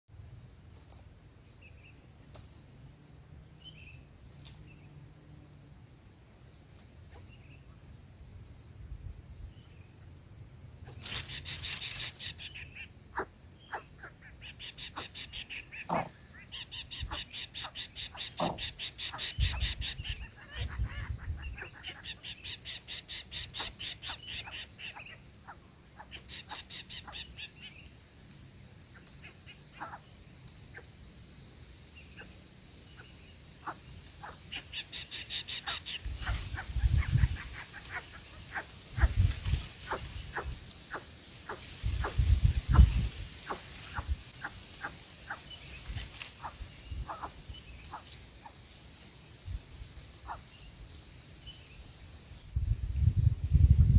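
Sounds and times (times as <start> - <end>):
insects trilling: 0.1 - 53.9.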